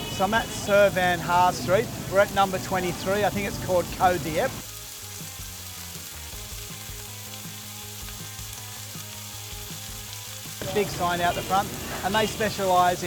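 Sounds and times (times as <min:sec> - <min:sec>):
food sizzling in hot oil: 0:00.0 - 0:13.0
soft background music: 0:01.4 - 0:13.0.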